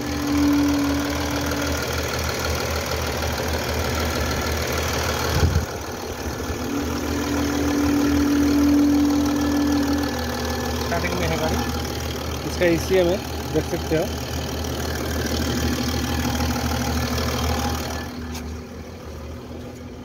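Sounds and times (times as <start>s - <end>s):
diesel engine idling: 0.0s - 20.0s
steady whine: 0.0s - 20.0s.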